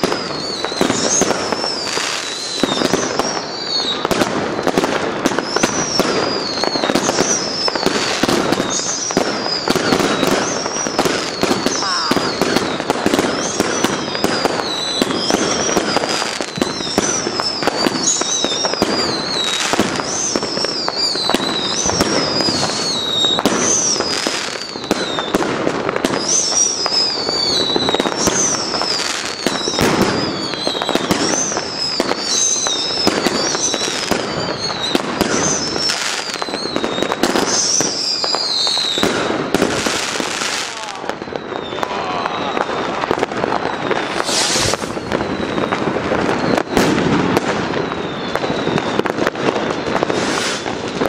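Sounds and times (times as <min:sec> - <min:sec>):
fireworks bangs and crackling: 0:00.0 - 0:51.0
whistling fireworks: 0:00.0 - 0:51.0.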